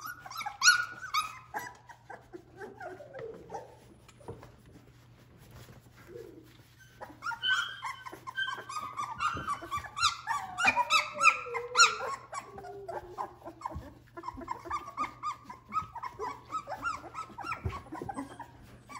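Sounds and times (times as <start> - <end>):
puppies squealing and whimpering: 0.0 - 4.5, 6.0 - 18.9.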